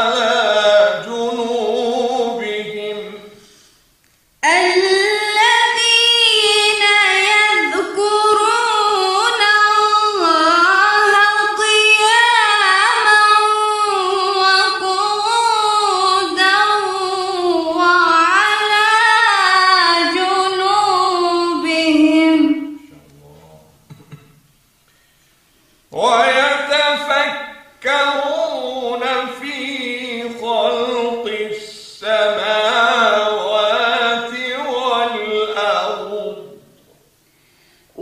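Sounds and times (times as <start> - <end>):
woman reciting melodically: 0.0 - 3.4, 4.4 - 22.9, 25.9 - 36.6.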